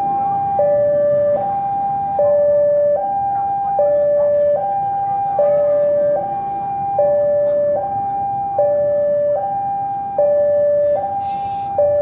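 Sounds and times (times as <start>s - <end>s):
level crossing two-tone alarm: 0.0s - 12.0s.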